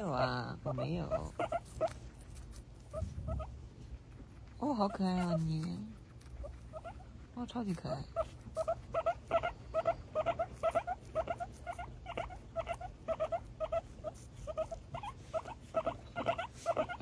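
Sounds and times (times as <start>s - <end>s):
guinea pigs squeaking: 0.0s - 17.0s.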